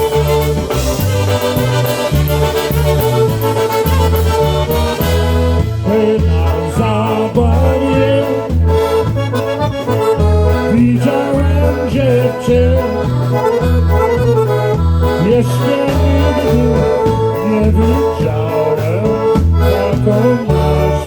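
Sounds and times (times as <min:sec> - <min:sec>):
accordion melody: 0:00.0 - 0:21.0
pulsing bass line: 0:00.0 - 0:21.0.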